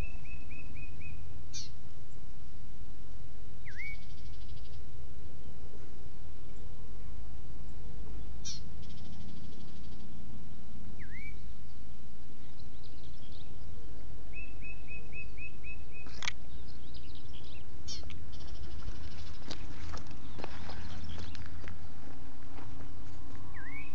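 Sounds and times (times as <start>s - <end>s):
songbirds calling: 0.0s - 2.3s, 3.6s - 23.9s.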